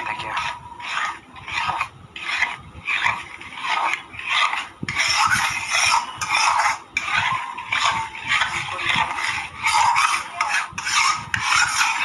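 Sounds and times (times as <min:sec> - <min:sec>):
spoon scraping a pan: 0:00.0 - 0:12.0.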